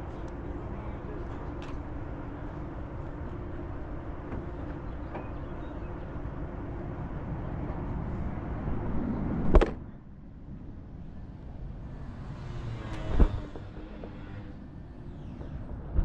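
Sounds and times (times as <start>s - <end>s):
low mechanical running noise: 0.0s - 16.0s.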